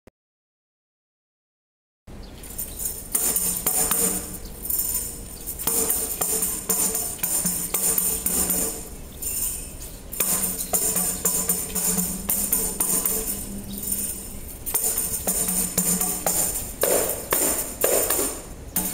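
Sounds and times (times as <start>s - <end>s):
tambourine jingles shaken and struck: 2.4s - 18.9s.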